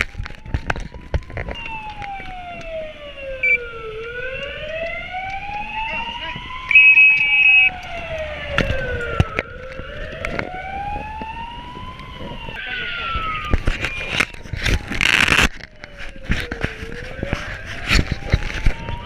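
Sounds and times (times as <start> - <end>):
fire engine siren wailing: 0.0 - 19.0.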